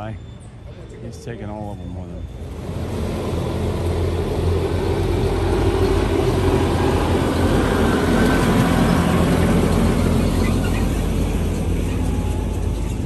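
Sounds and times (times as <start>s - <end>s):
traffic noise: 0.0s - 13.0s
large vehicle engine running: 2.2s - 13.0s.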